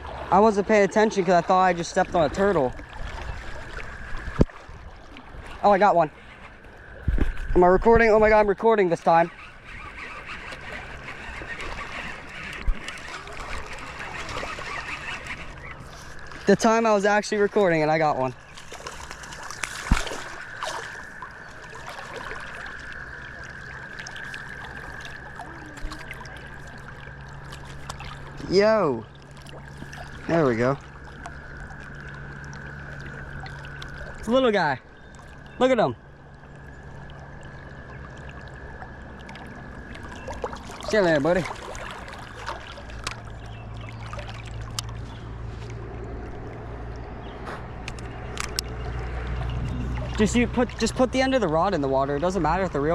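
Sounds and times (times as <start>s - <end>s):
creek water running: 0.0s - 52.9s
small splashes: 0.0s - 52.9s.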